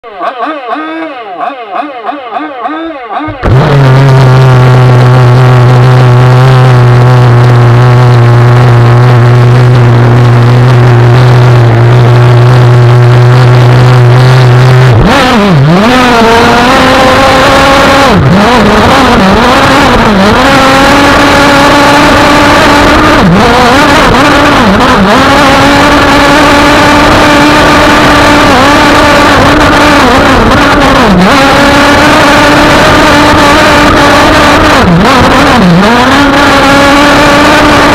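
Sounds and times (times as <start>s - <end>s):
two-stroke boat engine revving: 0.0s - 37.9s.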